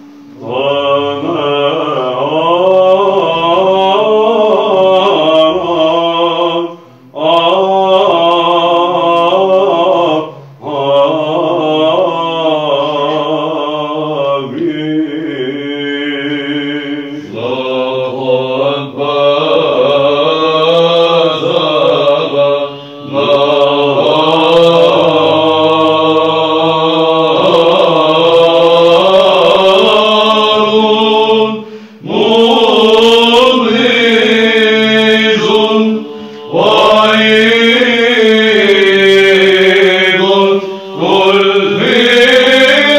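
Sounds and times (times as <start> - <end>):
low held vocal drone: 0.0 - 42.9
male choir chanting: 0.4 - 42.9.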